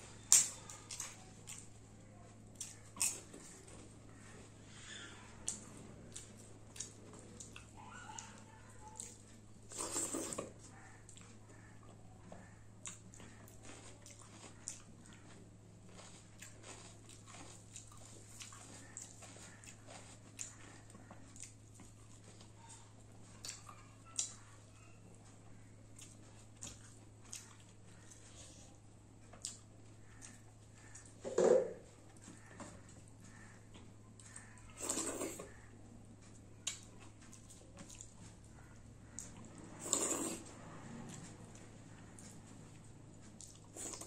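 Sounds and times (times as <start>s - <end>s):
person chewing: 0.0s - 24.6s, 25.6s - 31.2s, 31.8s - 44.0s.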